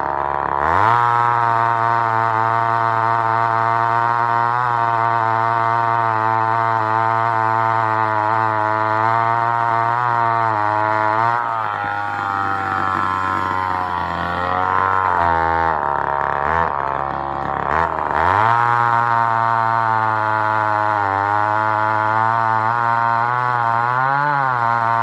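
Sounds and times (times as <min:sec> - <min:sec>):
chainsaw cutting log: 0:00.0 - 0:25.0.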